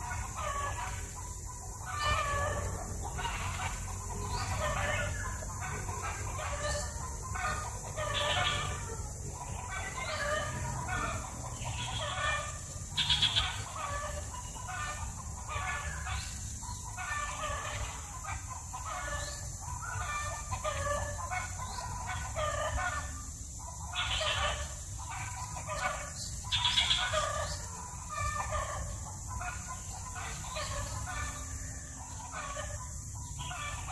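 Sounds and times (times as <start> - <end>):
birds calling: 0.0 - 33.9.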